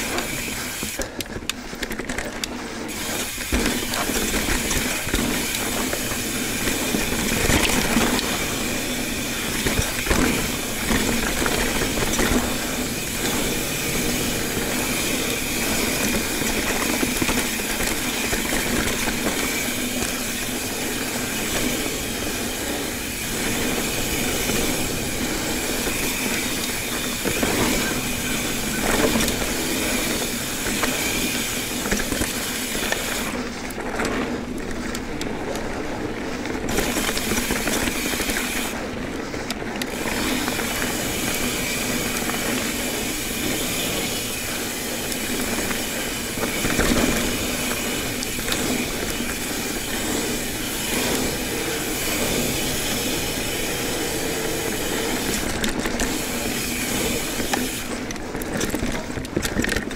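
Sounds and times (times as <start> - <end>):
bike tyre roar on dirt: 0.0 - 59.9.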